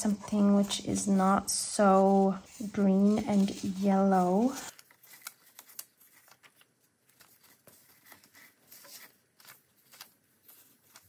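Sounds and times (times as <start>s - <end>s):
paper cutouts rustling: 0.0s - 11.0s.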